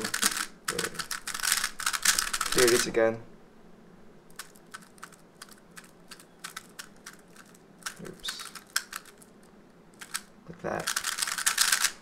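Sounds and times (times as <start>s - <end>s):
plastic clicks of cube turning: 0.0s - 2.9s, 4.3s - 9.3s, 10.0s - 12.0s.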